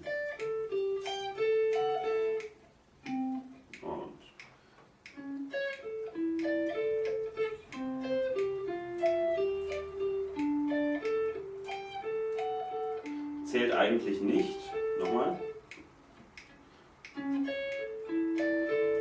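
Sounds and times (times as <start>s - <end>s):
guitar single-note melody: 0.0s - 3.8s, 5.2s - 16.0s, 17.1s - 19.0s
finger-snap metronome click: 0.0s - 19.0s.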